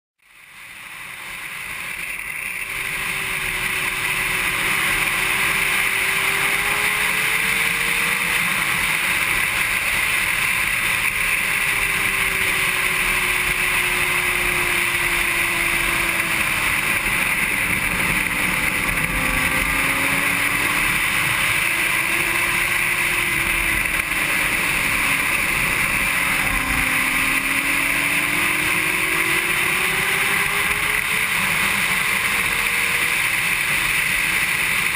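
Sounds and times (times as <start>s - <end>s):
motorcycle engine at speed: 0.2s - 34.9s.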